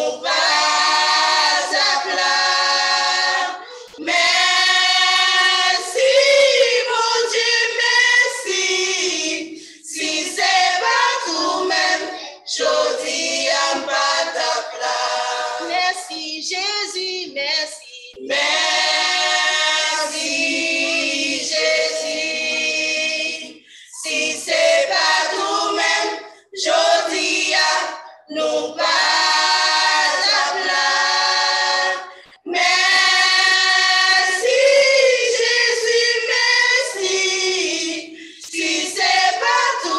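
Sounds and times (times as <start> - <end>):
gospel choir singing a hymn: 0.0 - 39.9.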